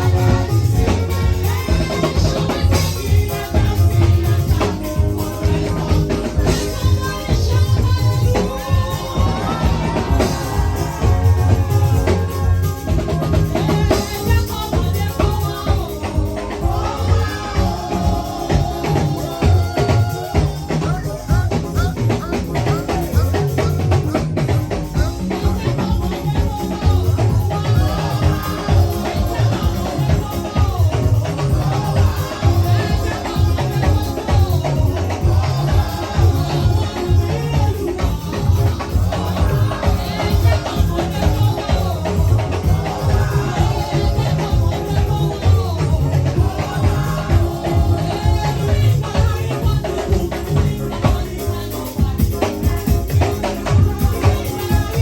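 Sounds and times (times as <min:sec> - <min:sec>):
upbeat music with drums and bass: 0:00.0 - 0:55.0
voices singing: 0:00.0 - 0:55.0.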